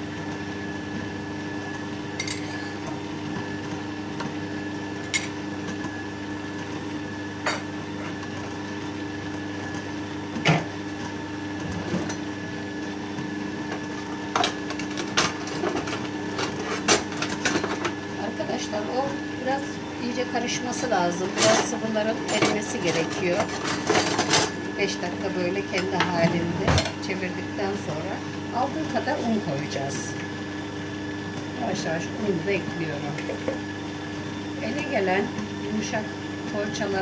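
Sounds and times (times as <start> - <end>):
stand mixer motor humming: 0.0 - 37.0.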